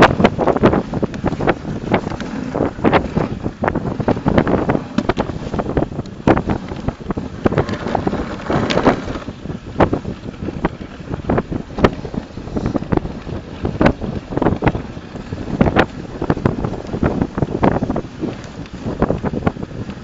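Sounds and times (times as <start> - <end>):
sled knocks and jolts: 0.0 - 20.0
sled runners scraping on snow: 0.0 - 20.0
wind buffeting microphone: 0.0 - 20.0.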